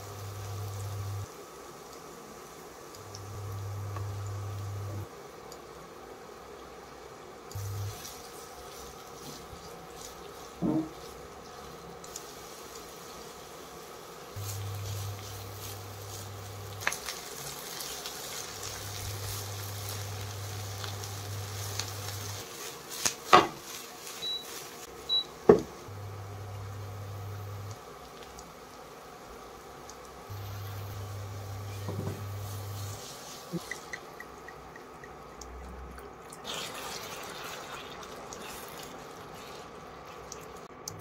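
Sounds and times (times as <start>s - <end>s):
vegetables sizzling in a pan: 0.0s - 5.1s, 7.5s - 34.2s, 36.4s - 40.7s
cooktop humming: 0.0s - 41.0s.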